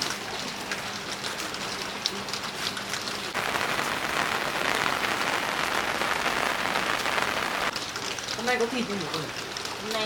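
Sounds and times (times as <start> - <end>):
steady rain: 0.0 - 10.0
sharp raindrop ticks: 0.9 - 10.0.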